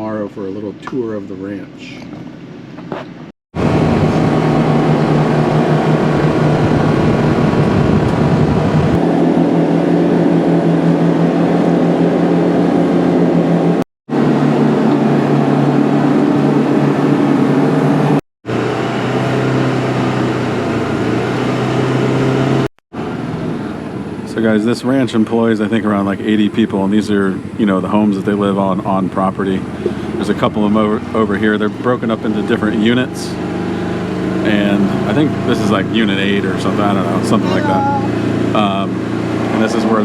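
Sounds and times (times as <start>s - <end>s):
road noise: 2.7s - 40.0s
vehicle engine running: 3.6s - 40.0s.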